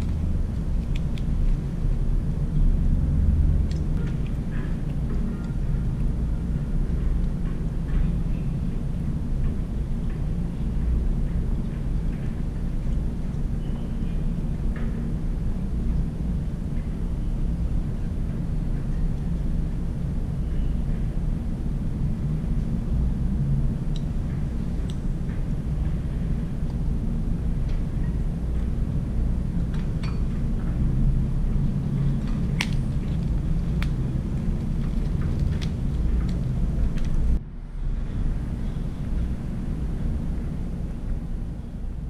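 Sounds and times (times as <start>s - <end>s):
low rumble: 0.0s - 42.0s.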